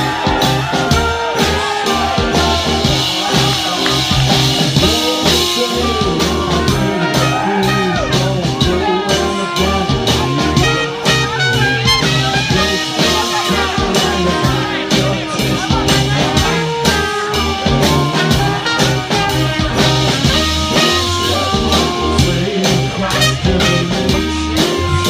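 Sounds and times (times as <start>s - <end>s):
live band music: 0.0s - 25.0s.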